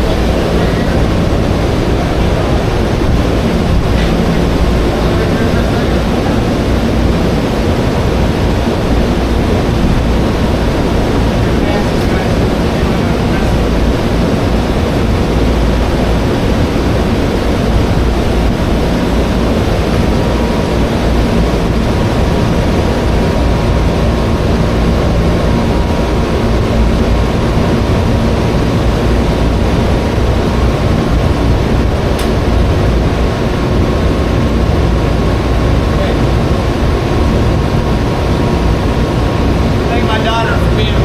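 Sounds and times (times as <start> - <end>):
faint steady hum: 0.0 - 41.0
loud low rumble: 0.0 - 41.0.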